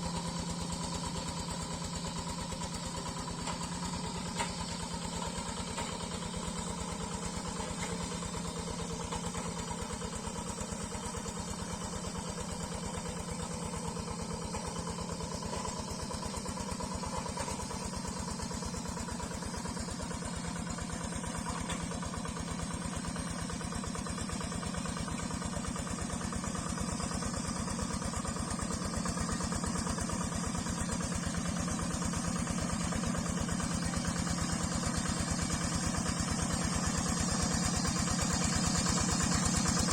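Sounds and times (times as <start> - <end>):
diesel hand tractor engine running: 0.0 - 39.9.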